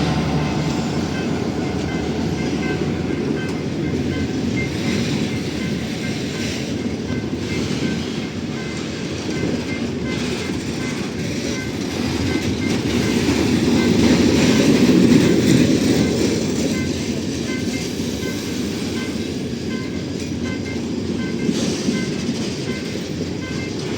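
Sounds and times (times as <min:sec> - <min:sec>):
freight train wagons rumbling: 0:00.0 - 0:23.9.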